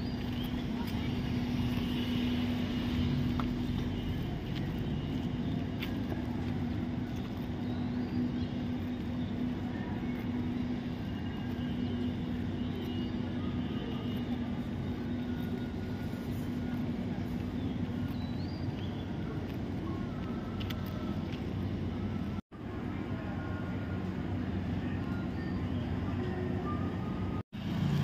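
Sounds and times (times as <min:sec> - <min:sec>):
steady low engine hum: 0:00.0 - 0:28.0
traffic noise: 0:00.0 - 0:28.0.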